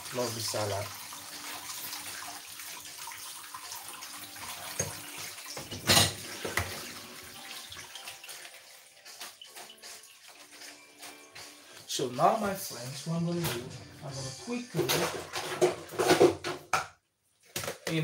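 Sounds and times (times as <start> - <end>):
tap water running into sink: 0.0 - 16.8.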